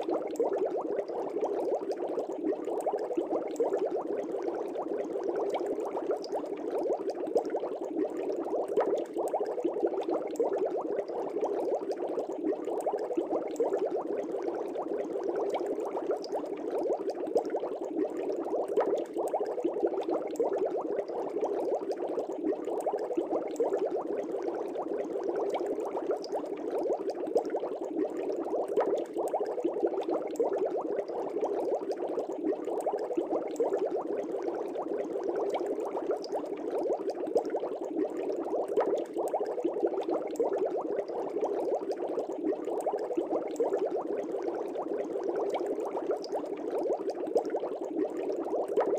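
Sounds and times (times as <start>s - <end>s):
aquarium air bubbling: 0.0s - 48.9s.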